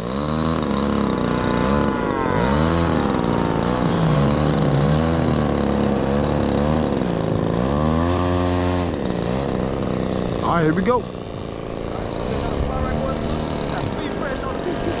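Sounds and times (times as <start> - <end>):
model airplane engines flying overhead: 0.0 - 15.0.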